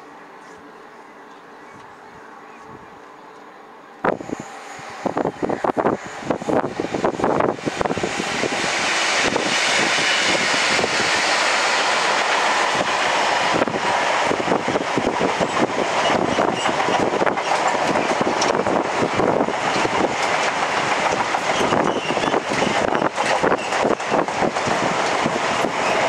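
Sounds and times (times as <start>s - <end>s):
train passing at speed: 3.6s - 26.0s.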